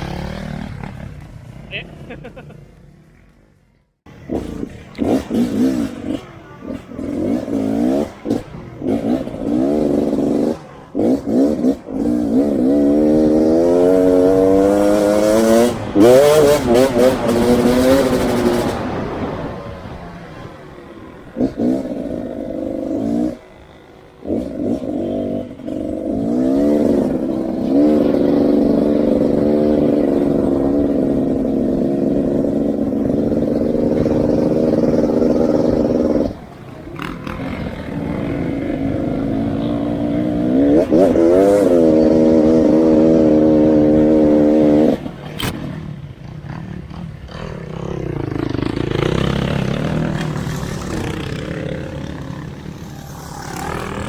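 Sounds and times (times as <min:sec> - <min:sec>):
off-road motorcycle engine: 0:00.0 - 0:54.0.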